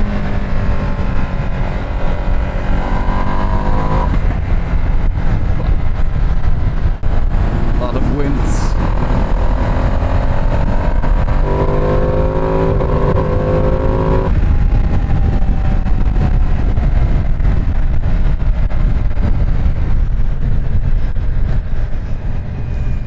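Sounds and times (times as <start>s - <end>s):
motorcycle engine accelerating: 0.0s - 23.0s
wind rush on microphone: 0.0s - 23.0s.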